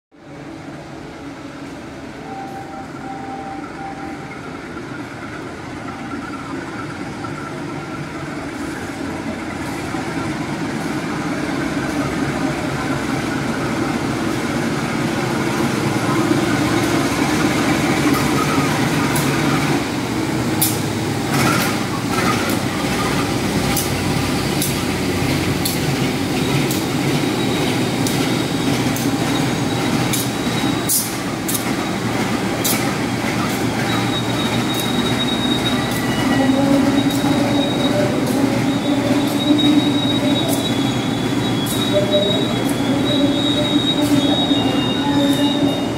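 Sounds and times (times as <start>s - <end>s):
diesel locomotive engine drone: 0.1s - 45.9s.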